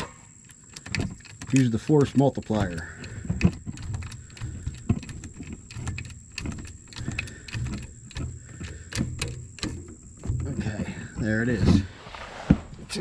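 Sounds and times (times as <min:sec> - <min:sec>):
metal tools clicking and clanking: 0:00.4 - 0:11.9.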